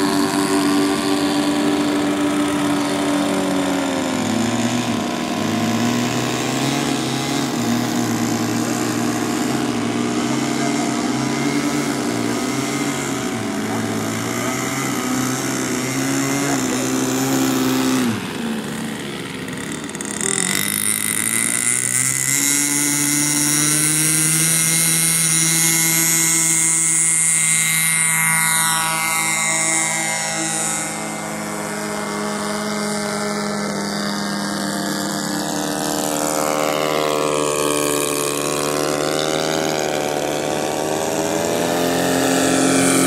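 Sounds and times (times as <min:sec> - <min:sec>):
model airplane engines: 0:00.0 - 0:43.0.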